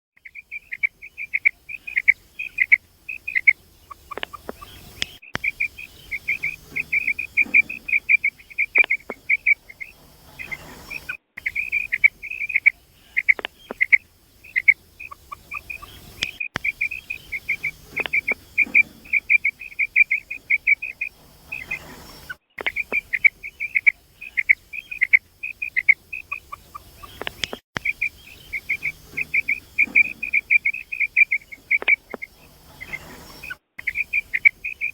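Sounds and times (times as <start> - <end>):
quail calling high chirps: 0.2 - 34.9.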